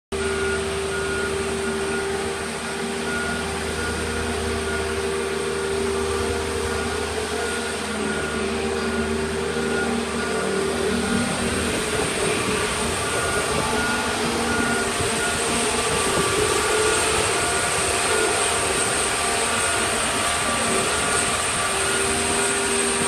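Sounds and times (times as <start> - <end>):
heavy machinery hum: 0.1 - 23.0
steady machine whine: 0.1 - 23.0.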